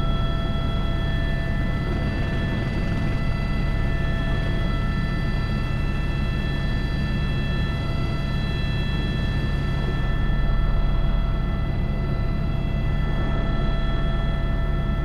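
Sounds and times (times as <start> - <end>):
helicopter rotor and engine drone: 0.0 - 15.0
high turbine whine: 0.0 - 15.0.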